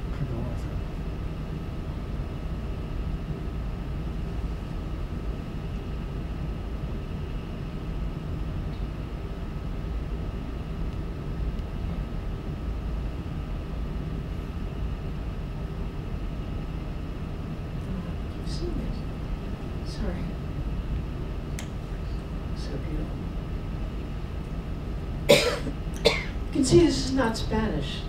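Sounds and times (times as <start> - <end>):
faint high whine: 0.0 - 28.0
low room rumble: 0.0 - 28.0.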